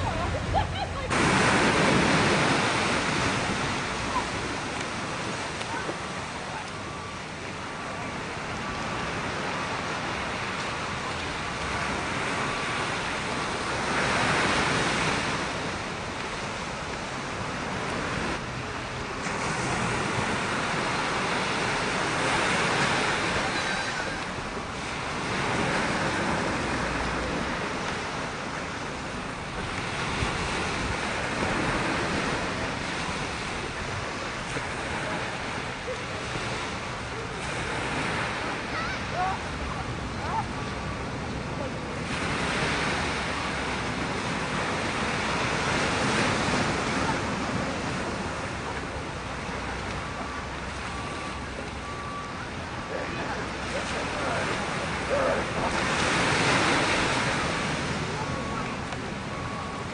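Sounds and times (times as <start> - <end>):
small ocean waves breaking: 0.0 - 59.9.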